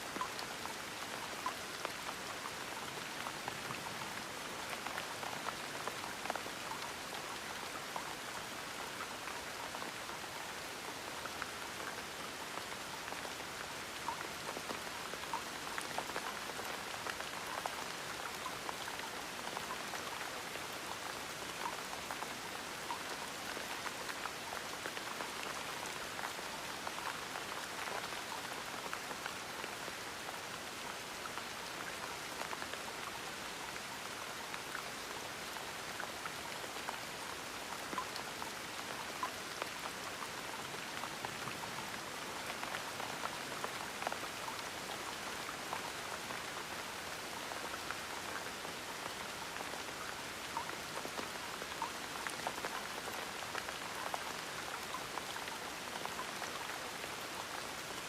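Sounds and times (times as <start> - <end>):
gentle rain patter: 0.0 - 58.0.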